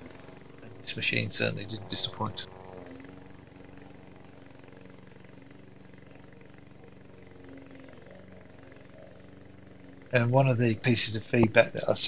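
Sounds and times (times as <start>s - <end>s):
distant mower engine running: 0.0s - 12.0s.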